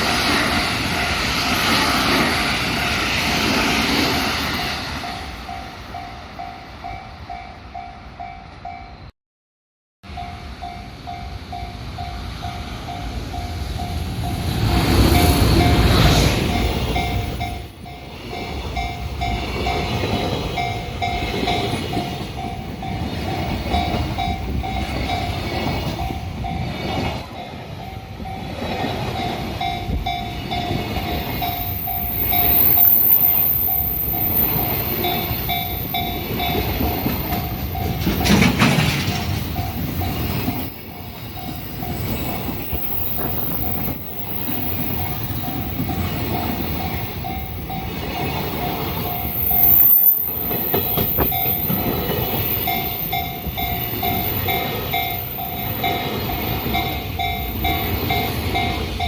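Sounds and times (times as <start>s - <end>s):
train rumbling over rails: 0.0s - 9.1s, 10.1s - 59.0s
level-crossing alarm ringing: 10.1s - 59.0s.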